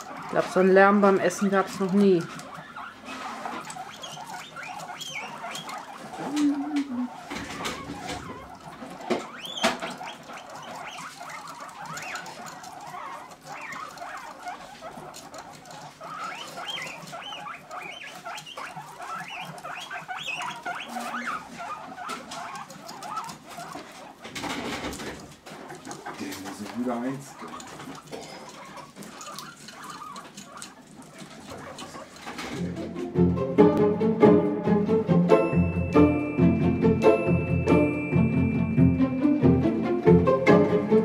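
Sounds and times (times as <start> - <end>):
guinea pigs squeaking: 0.0 - 41.0.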